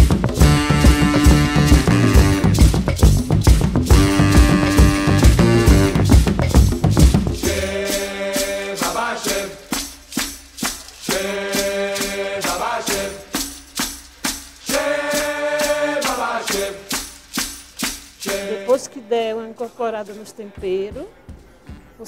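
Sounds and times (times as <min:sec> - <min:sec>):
music with percussive beat: 0:00.0 - 0:18.8.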